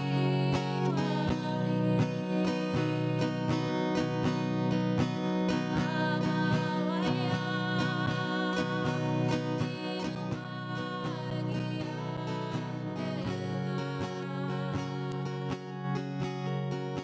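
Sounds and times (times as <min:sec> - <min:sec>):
person singing: 0:00.0 - 0:04.6, 0:05.5 - 0:15.5
strummed acoustic guitar: 0:00.0 - 0:17.0.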